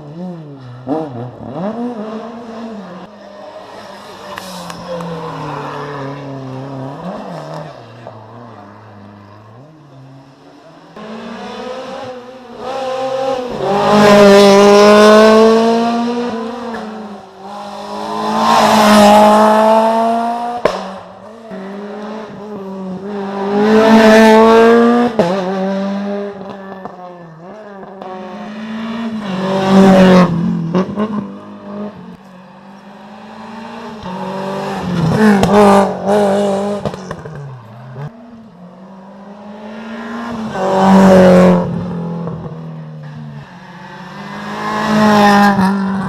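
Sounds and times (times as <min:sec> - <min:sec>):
rally car engine at full throttle: 0:00.0 - 0:46.0.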